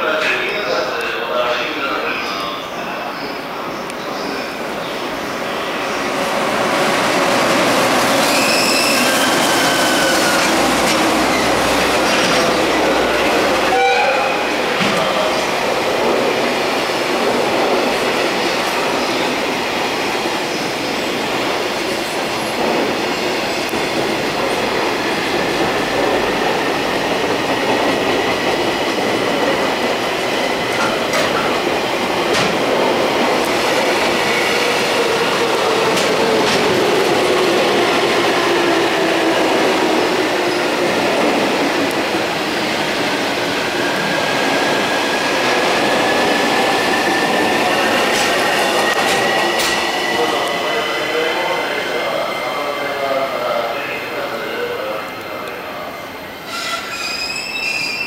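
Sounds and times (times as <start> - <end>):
freight train passing: 0.0 - 58.0
wheels rushing on rail: 5.6 - 52.4.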